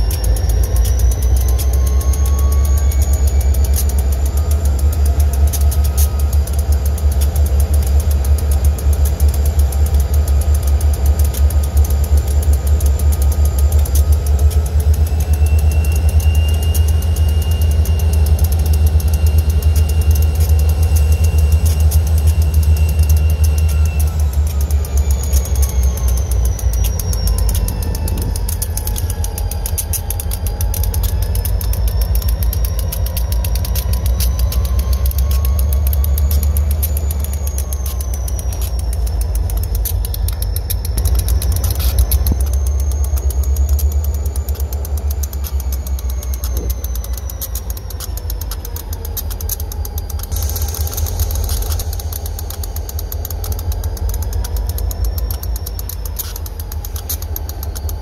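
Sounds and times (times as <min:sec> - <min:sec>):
faint wavering whine: 0:00.0 - 0:58.0
locomotive engine rumble: 0:00.0 - 0:58.0.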